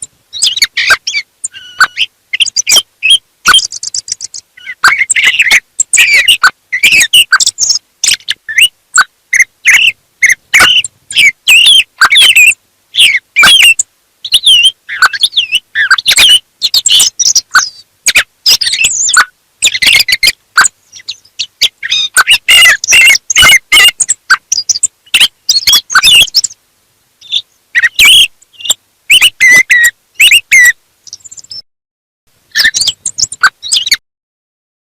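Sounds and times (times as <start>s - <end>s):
thrushes singing: 0.0s - 26.6s, 27.2s - 31.6s, 32.6s - 34.0s.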